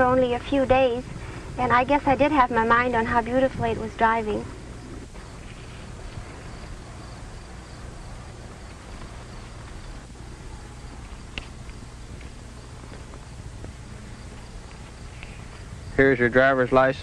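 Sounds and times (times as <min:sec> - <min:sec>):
film soundtrack hiss and hum: 0:00.0 - 0:17.0.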